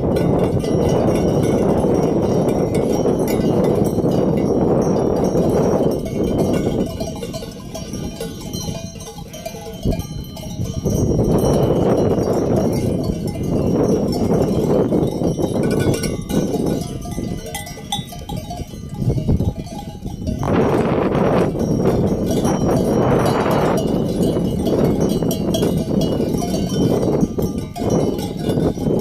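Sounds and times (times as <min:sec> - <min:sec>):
livestock bells clanking: 0:00.0 - 0:29.0.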